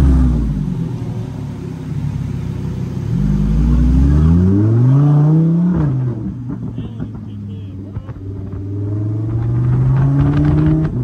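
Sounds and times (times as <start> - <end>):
sports car engine revving: 0.0 - 11.0.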